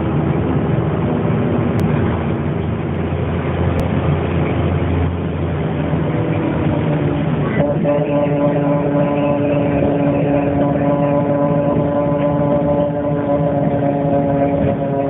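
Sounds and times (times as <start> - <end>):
bus engine and road noise: 0.0 - 15.0
high whining tone: 0.0 - 15.0
low drone: 0.0 - 15.0.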